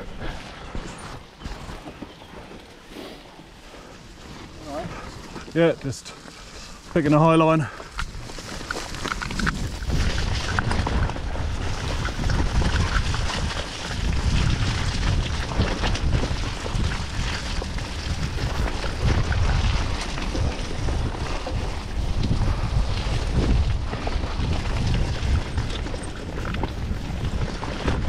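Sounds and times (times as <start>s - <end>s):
wind buffeting microphone: 3.8s - 28.0s.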